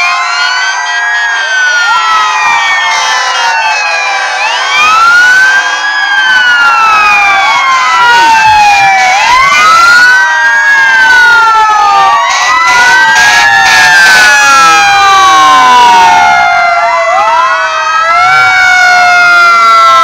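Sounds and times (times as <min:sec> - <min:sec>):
fire engine sirens wailing: 0:00.0 - 0:20.0.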